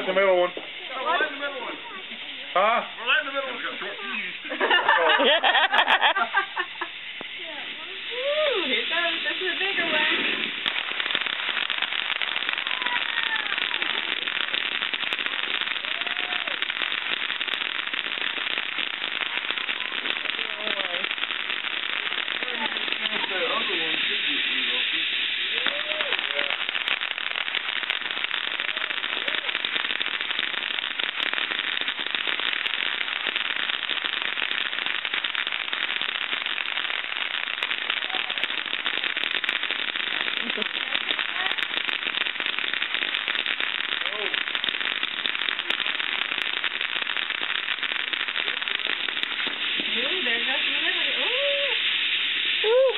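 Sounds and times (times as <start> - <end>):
firework crackling and hissing: 0.0 - 52.9.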